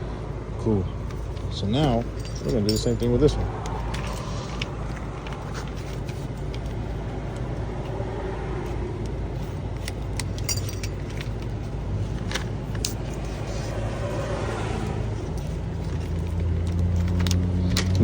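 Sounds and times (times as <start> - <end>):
steady low hum: 0.0 - 17.8
keys and key fob handled: 1.0 - 8.0, 9.0 - 14.1, 15.2 - 18.0.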